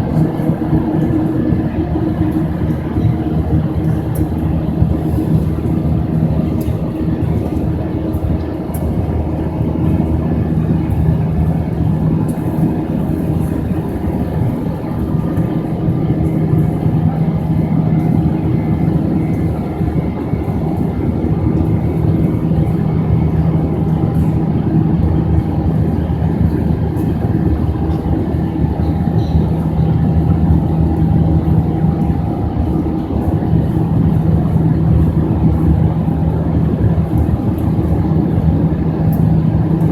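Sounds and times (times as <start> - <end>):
jet engines from inside cabin: 0.0 - 39.9.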